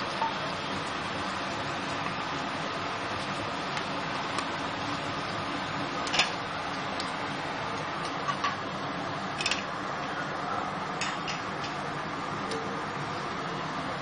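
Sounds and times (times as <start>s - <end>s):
onions sizzling in oil: 0.0s - 14.0s.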